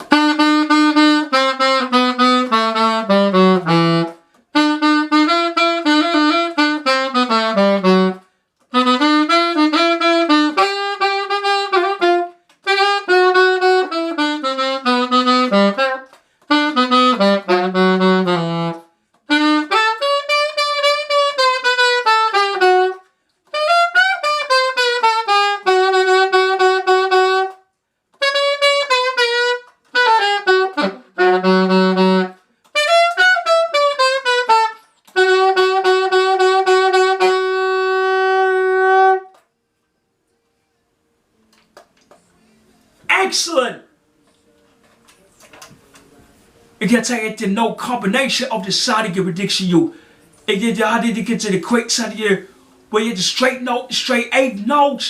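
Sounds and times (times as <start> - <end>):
alto saxophone playing: 0.0 - 39.5, 46.4 - 55.0.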